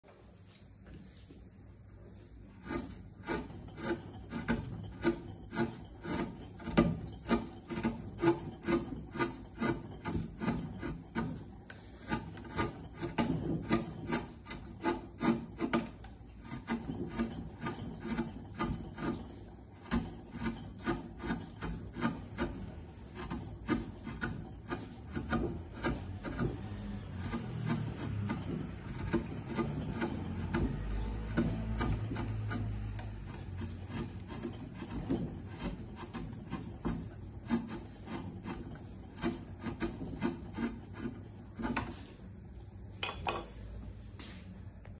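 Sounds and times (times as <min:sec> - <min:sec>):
chisel scraping through wood: 0:02.1 - 0:44.6.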